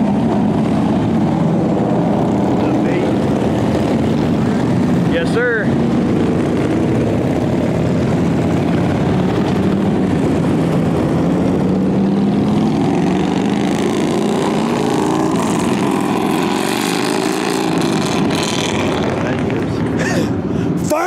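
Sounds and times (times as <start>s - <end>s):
motorcycles riding by: 0.0s - 21.0s.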